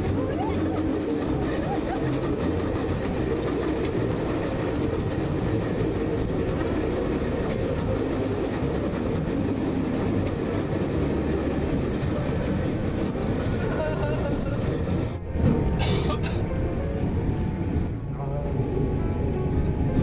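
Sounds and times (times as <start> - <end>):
wheels rumbling on steel track: 0.0 - 20.0.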